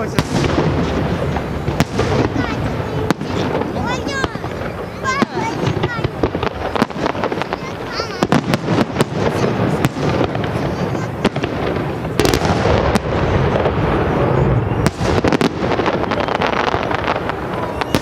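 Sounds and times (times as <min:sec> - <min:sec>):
dense fireworks rumble: 0:00.0 - 0:18.0
fireworks bangs: 0:00.0 - 0:18.0.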